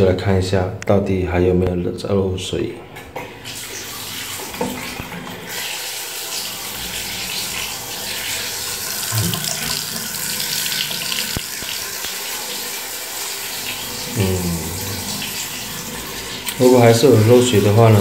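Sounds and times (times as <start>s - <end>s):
tap water running into drain: 2.8s - 18.0s.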